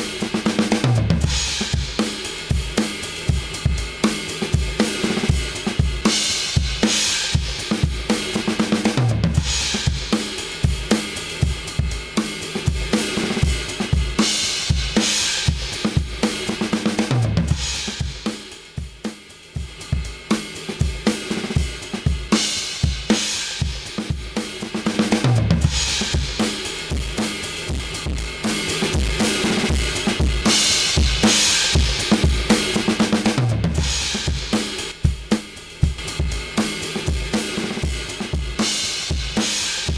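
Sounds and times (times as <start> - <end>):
drum kit playing a groove: 0.0 - 39.9.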